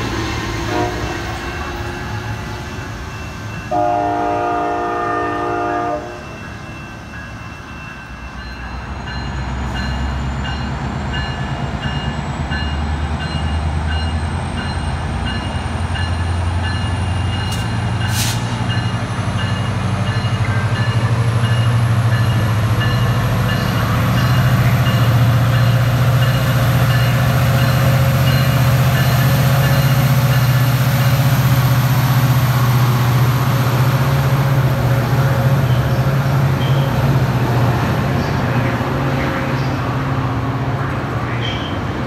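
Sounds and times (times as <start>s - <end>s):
diesel locomotive engine drone: 0.0s - 42.0s
train coaches rolling past: 0.0s - 42.0s.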